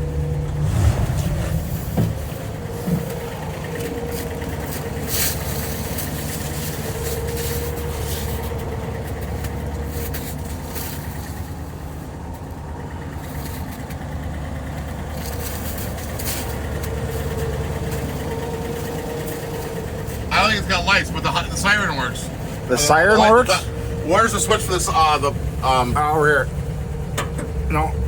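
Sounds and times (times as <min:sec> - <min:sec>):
fire truck engine idling: 0:00.0 - 0:28.0.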